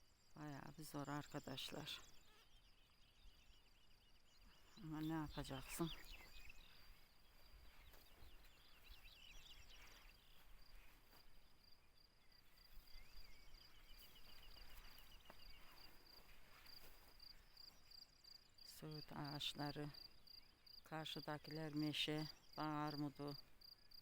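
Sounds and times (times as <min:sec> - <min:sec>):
small birds twittering: 0:00.3 - 0:24.0.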